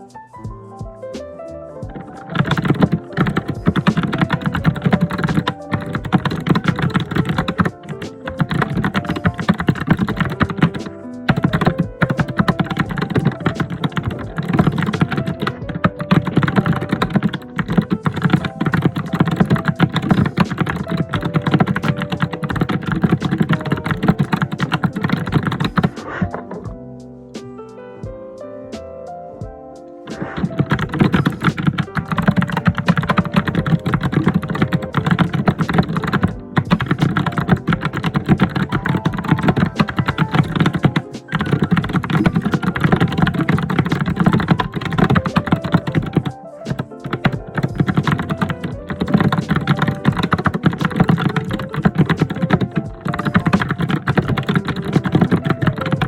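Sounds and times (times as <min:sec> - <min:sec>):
soft background music: 0:00.0 - 0:56.0
fast typing on keyboard: 0:01.8 - 0:26.6, 0:30.1 - 0:56.0.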